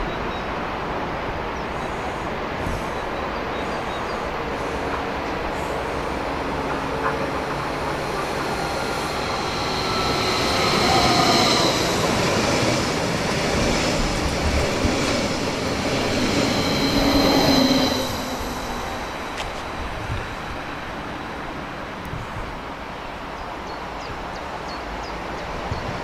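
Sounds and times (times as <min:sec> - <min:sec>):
train high whine: 0:00.0 - 0:26.0
train wheels on rails: 0:01.6 - 0:23.1.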